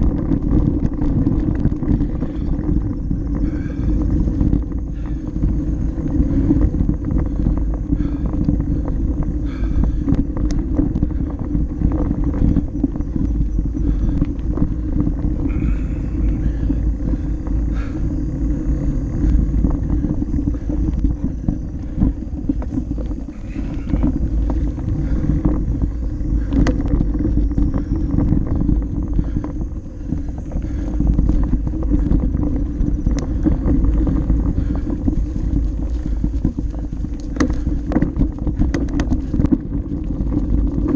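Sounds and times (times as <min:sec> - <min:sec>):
bike clicks and rattles: 0:00.0 - 0:40.9
wind and tyre noise: 0:00.0 - 0:40.9.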